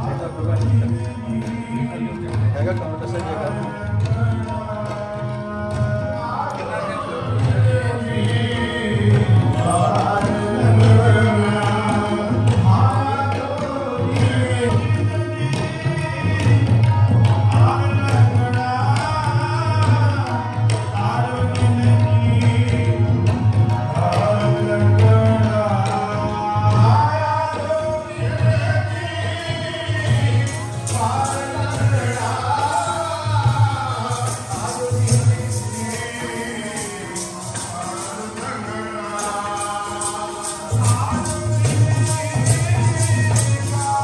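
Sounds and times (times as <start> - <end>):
drumming: 7.4 - 44.0.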